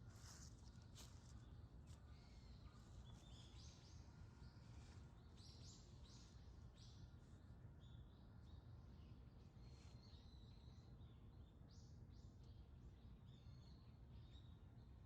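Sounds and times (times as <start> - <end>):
faint small bird chirps: 0.0 - 15.0.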